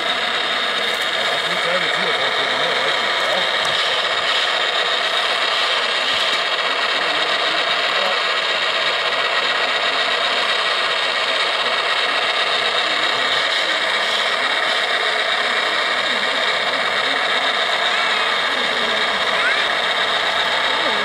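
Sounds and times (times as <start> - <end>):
small electric motors whirring: 0.0 - 21.0.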